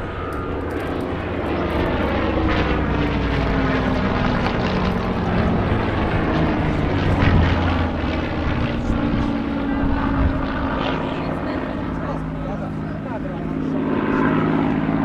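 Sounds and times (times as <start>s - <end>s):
propeller planes flying past: 0.0s - 15.0s.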